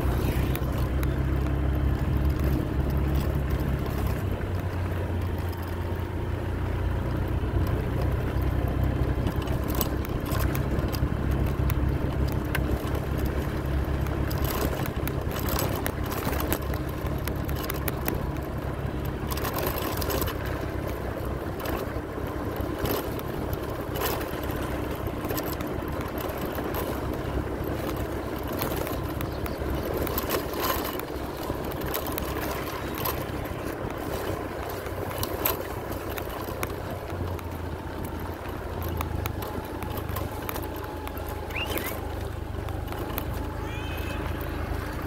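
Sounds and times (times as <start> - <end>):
road rumble: 0.0 - 45.0
vehicle engine hum: 0.0 - 45.0.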